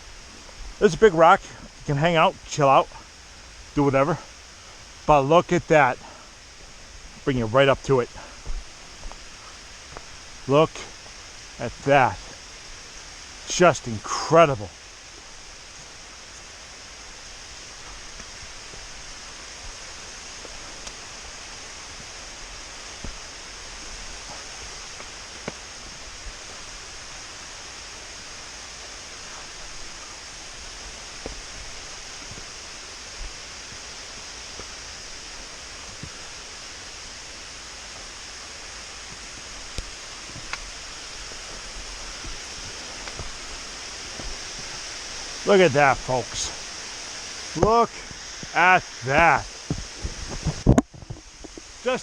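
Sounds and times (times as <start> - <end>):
waterfall rushing: 0.8 - 50.6, 51.6 - 52.0.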